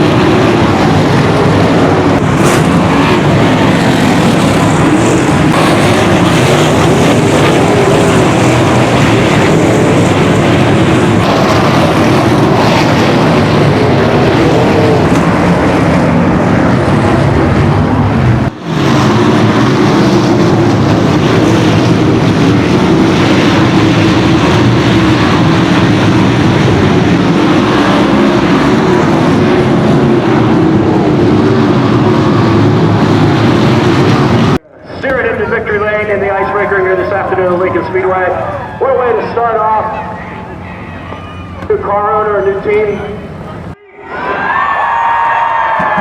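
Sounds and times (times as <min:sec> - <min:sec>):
race car engines running hard: 0:00.0 - 0:43.8.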